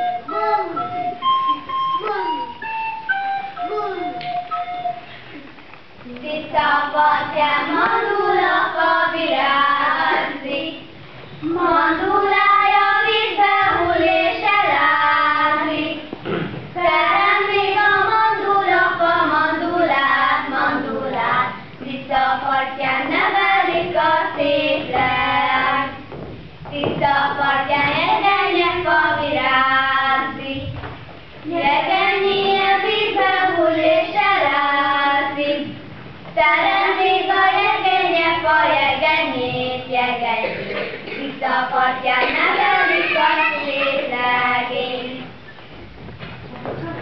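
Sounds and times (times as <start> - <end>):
girls singing: 6.0 - 45.5.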